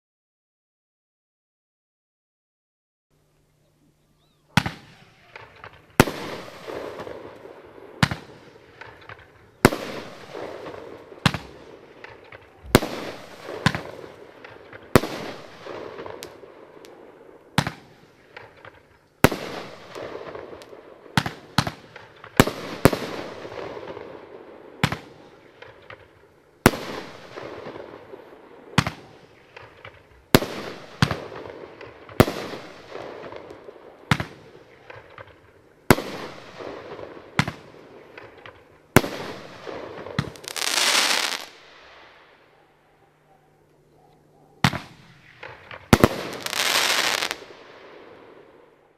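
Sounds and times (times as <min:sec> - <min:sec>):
fireworks bangs: 0:04.5 - 0:42.2, 0:44.6 - 0:48.6.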